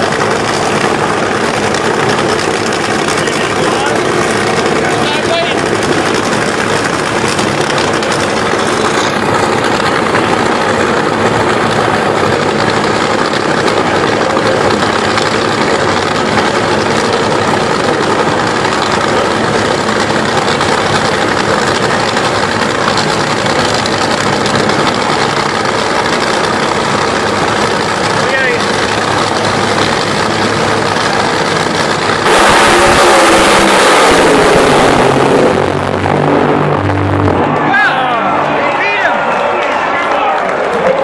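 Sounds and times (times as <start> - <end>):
drag racing engines idling: 0.0 - 41.0.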